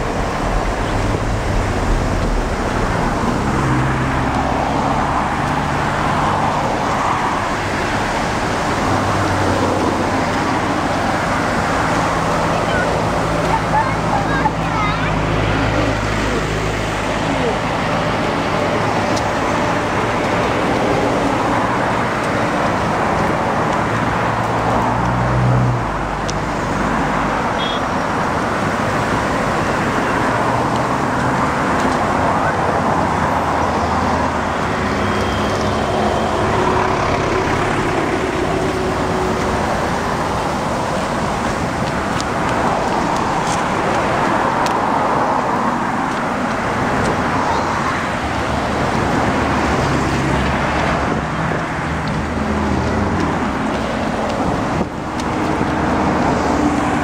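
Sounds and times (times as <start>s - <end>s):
heavy engine passing: 0.0s - 57.0s
road traffic passing: 0.0s - 57.0s.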